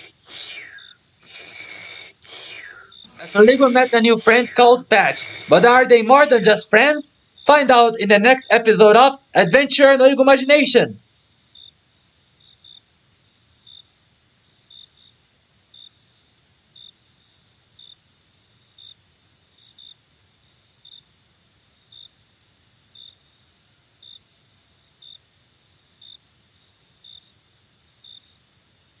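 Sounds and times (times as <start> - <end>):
crickets chirping: 0.0 - 29.0
high-pitched insect trill: 0.0 - 29.0.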